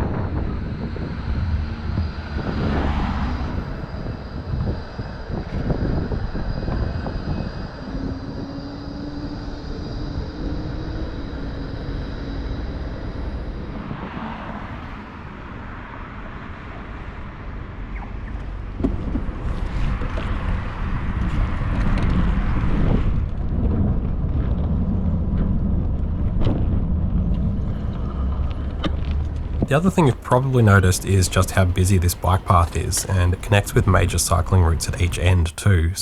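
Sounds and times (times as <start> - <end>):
wind and tyre rumble: 0.0 - 29.7.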